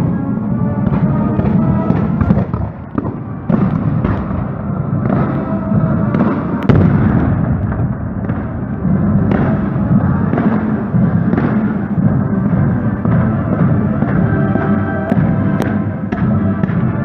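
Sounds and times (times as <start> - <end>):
fireworks bangs: 0.0 - 17.0
military band playing: 0.0 - 17.0.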